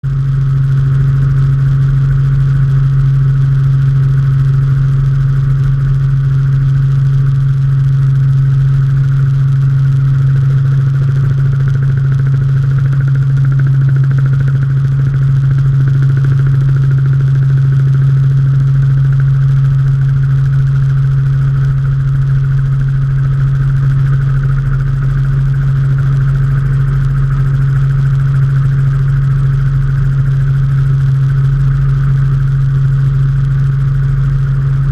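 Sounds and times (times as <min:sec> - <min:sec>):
helicopter engine and rotors drone: 0:00.0 - 0:34.9.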